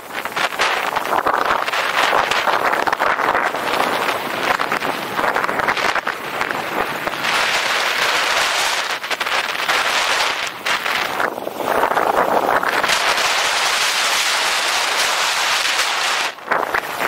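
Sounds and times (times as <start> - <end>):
skis scraping over packed snow: 0.0 - 17.0
wind buffeting microphone: 0.0 - 17.0.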